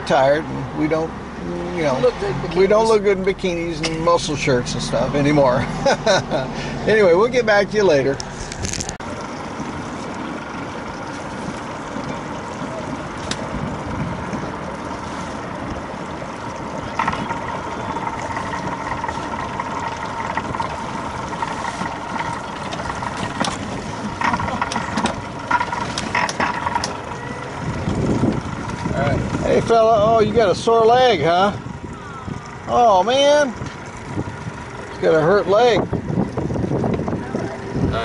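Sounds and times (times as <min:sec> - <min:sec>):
motorboat engine idling: 0:00.0 - 0:38.0.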